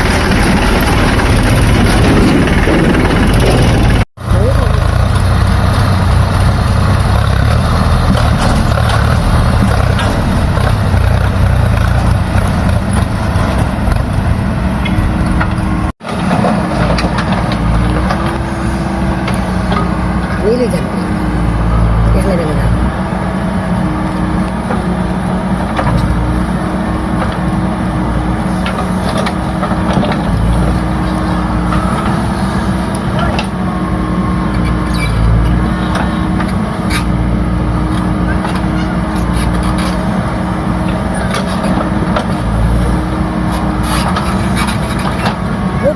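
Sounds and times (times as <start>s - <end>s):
heavy diesel engine rumbling: 0.0s - 45.9s.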